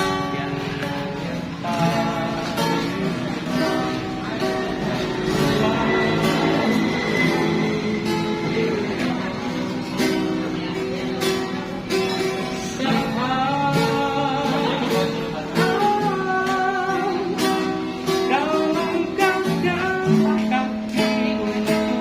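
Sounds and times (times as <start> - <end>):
acoustic guitar strumming: 0.0 - 22.0
person singing: 1.6 - 10.9, 12.0 - 22.0.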